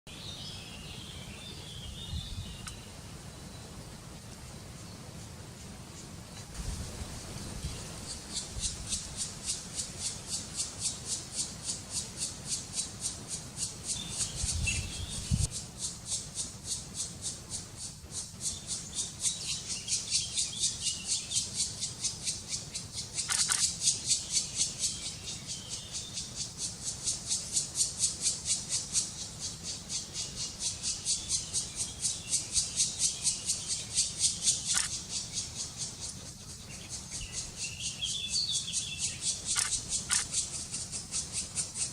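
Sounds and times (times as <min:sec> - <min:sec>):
woodpecker nestlings begging chatter: 0:08.1 - 0:41.9.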